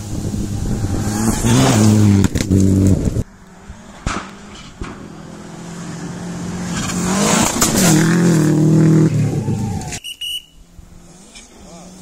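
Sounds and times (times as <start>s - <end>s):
rally car engine at full throttle: 0.0s - 10.0s, 10.7s - 12.0s.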